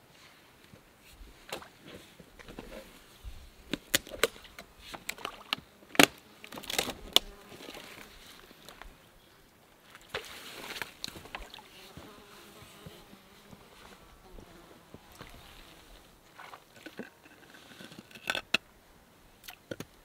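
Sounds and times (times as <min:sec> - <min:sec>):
soft rustle: 0:00.0 - 0:05.2, 0:06.8 - 0:18.1.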